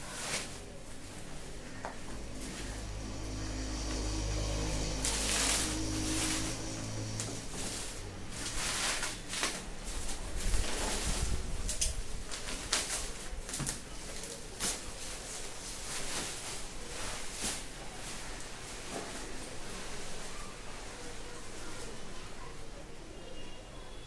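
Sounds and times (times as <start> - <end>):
bubble wrap crinkling: 0.0 - 19.9.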